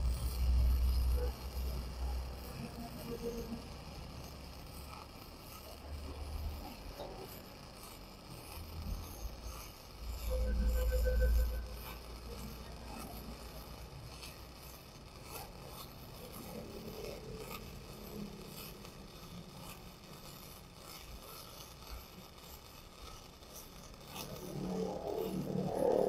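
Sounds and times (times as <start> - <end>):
welding arc crackling sizzle: 0.0 - 26.0.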